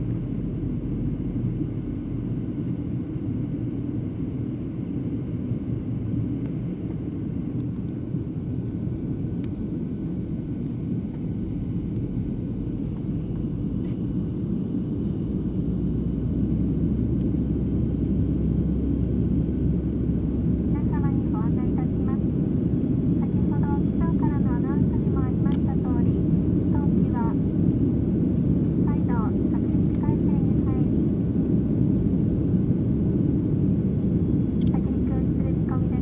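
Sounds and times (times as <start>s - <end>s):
airliner engines rumbling: 0.0s - 36.0s.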